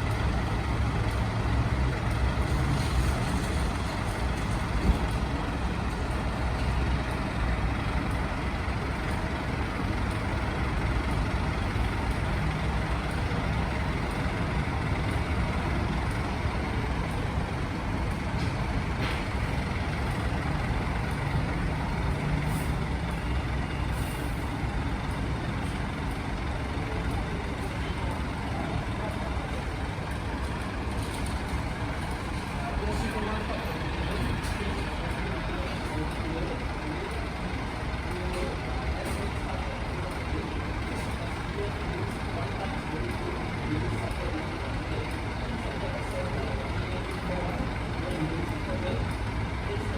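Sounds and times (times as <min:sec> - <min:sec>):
large vehicle engine idling: 0:00.0 - 0:49.9
street noise: 0:00.0 - 0:49.9.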